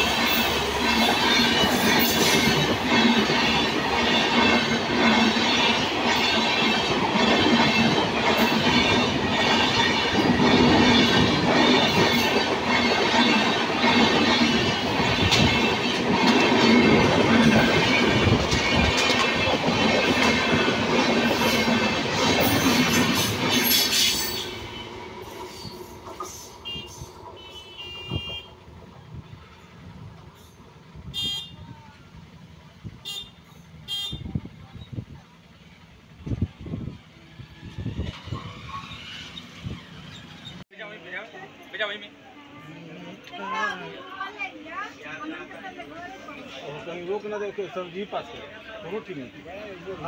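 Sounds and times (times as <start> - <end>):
train wheels on rails: 0.0 - 42.1.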